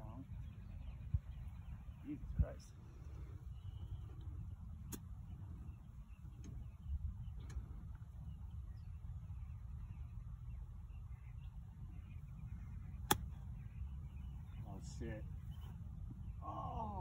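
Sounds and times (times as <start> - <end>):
faint birdsong: 0.0 - 17.0
wind rumbling on microphone: 0.0 - 17.0.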